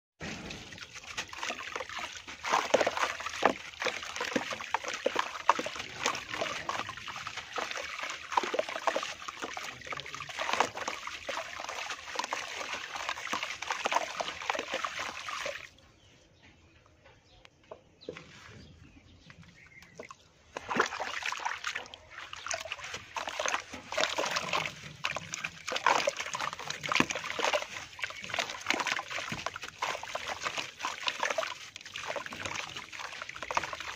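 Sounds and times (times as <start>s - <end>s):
water sloshing and splashing: 0.2s - 16.0s, 18.1s - 33.9s.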